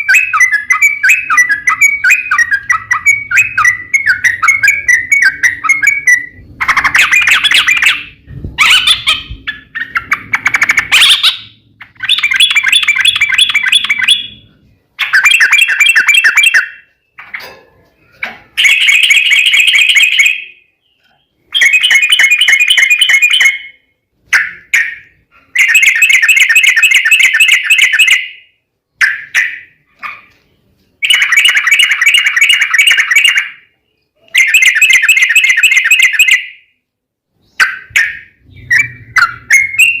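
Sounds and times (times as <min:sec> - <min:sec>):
bulbul chattering song: 0:00.0 - 0:17.4, 0:18.4 - 0:30.3, 0:31.0 - 0:40.0.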